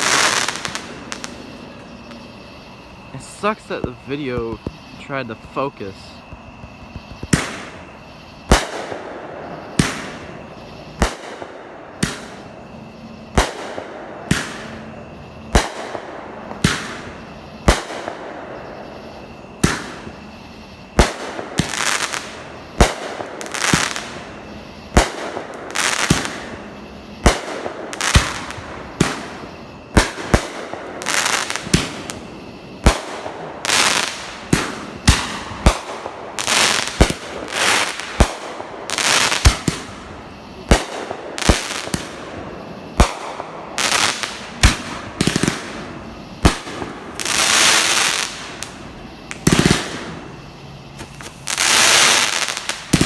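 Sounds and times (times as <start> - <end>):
fireworks banging: 0.0 - 12.6, 13.3 - 53.0
firework hiss: 0.0 - 53.0.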